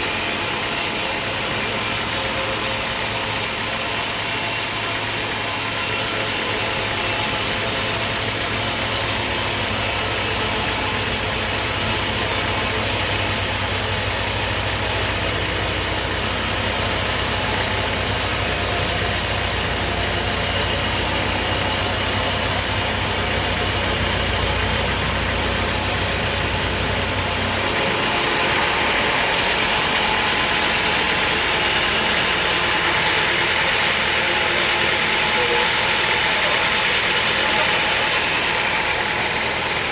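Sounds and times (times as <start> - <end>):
sawmill machinery hum and hiss: 0.0 - 39.9.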